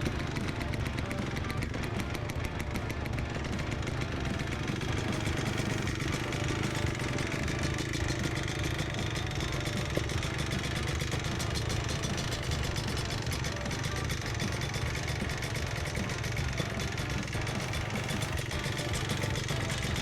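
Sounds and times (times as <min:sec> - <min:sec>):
two-stroke atv engine running: 0:00.0 - 0:20.0.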